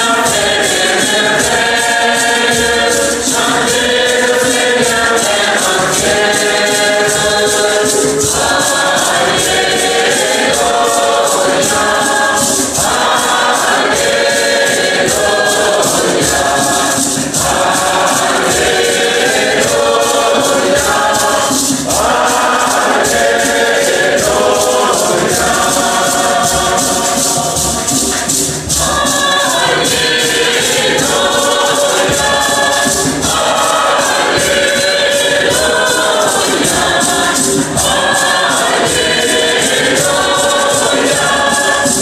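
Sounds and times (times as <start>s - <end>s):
choir singing: 0.0s - 42.0s
percussion beat: 0.0s - 42.0s.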